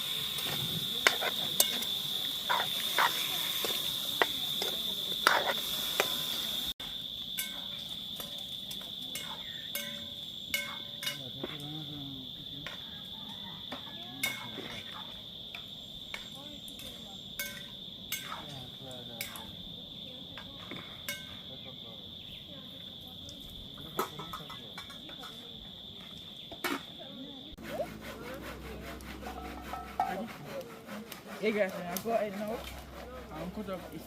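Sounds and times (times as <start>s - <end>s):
cricket chorus: 0.0s - 34.0s.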